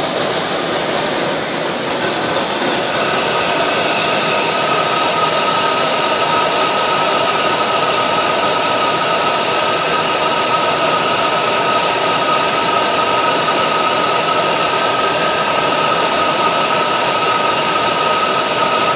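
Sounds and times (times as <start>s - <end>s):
thin steady whine: 0.0s - 18.9s.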